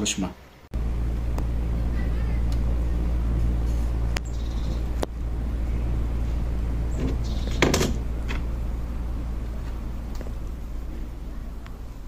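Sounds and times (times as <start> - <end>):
steady low hum: 0.6 - 12.0.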